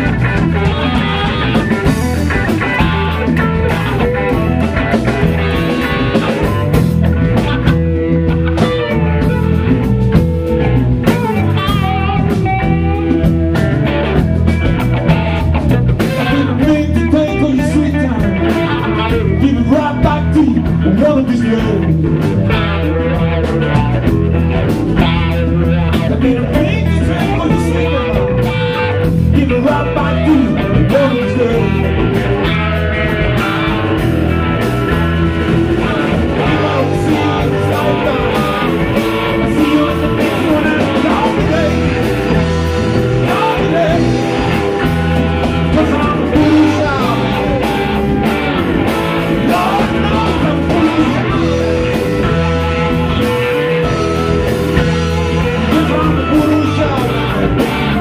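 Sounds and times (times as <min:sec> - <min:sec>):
drums: 0:00.0 - 0:58.0
electric bass: 0:00.0 - 0:58.0
electric guitars: 0:00.0 - 0:58.0.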